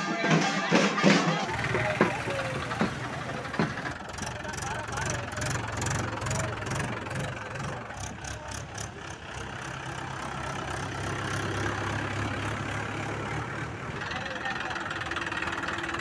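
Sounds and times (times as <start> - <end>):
tractor diesel engine running: 1.4 - 16.0.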